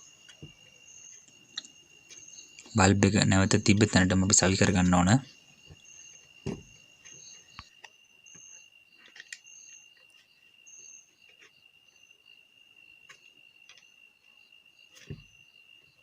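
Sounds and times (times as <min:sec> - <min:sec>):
insect chirring: 0:00.0 - 0:16.0.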